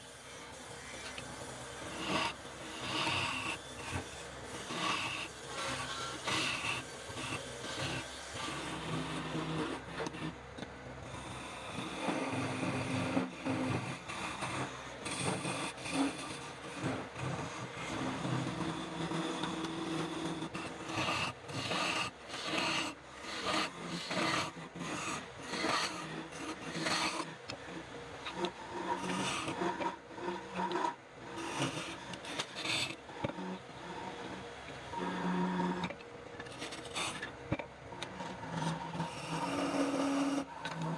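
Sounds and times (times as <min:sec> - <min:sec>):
hand tool rasping wood: 0:01.0 - 0:10.4, 0:11.0 - 0:33.4, 0:38.6 - 0:40.9.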